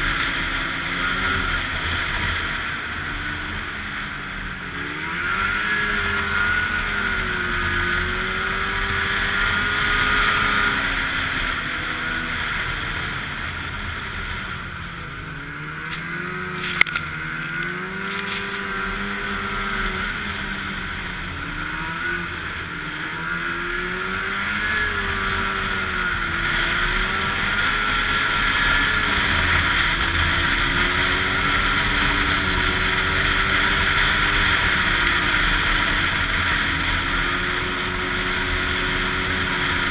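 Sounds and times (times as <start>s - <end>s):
snowmobile engine revving: 0.0s - 39.9s
steady rush of noise: 0.0s - 39.9s.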